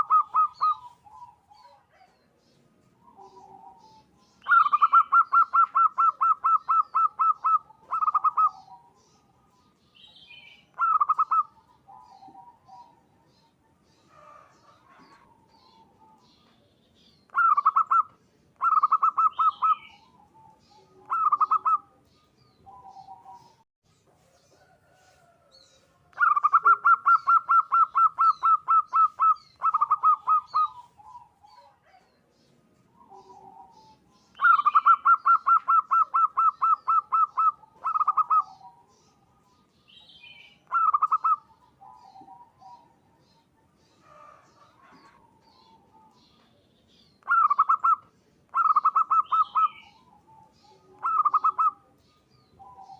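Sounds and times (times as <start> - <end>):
dove cooing: 0.0 - 2.3, 3.0 - 16.6, 17.2 - 23.6, 24.6 - 32.2, 32.8 - 46.5, 47.2 - 52.9.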